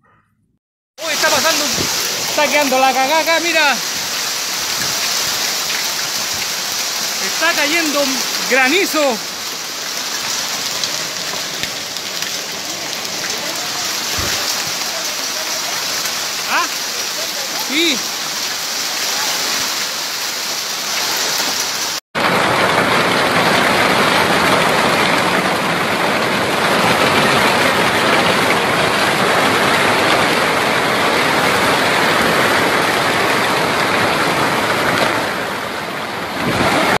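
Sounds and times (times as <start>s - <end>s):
hail and heavy rain: 1.0s - 37.0s.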